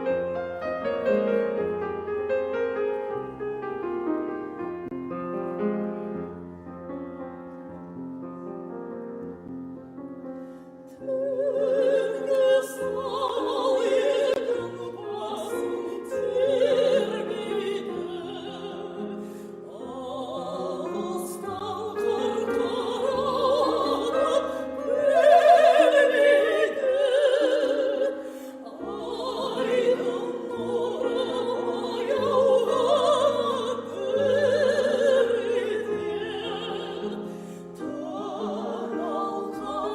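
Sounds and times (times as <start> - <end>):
piano accompaniment: 0.0 - 39.9.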